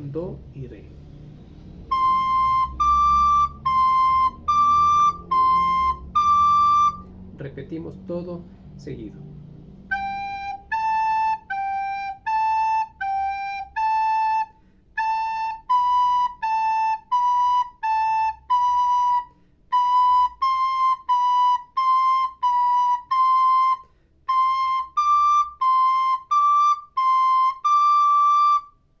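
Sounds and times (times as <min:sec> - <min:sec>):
soprano recorder playing notes: 0:01.8 - 0:07.2, 0:09.9 - 0:29.0.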